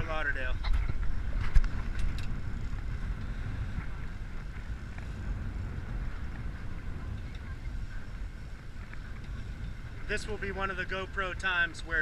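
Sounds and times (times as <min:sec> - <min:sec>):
low rumble of wind and water: 0:00.0 - 0:12.0.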